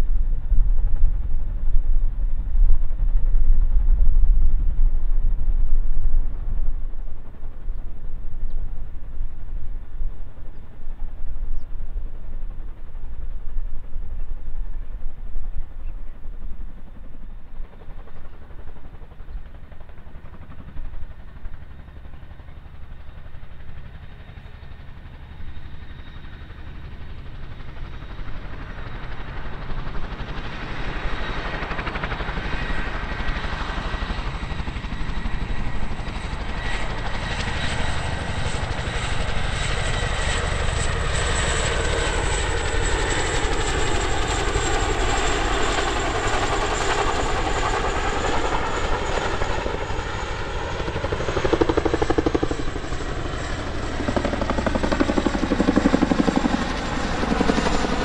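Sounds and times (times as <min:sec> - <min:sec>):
helicopter rotor beat: 0:00.0 - 0:58.0
turbine engine whine: 0:00.0 - 0:58.0.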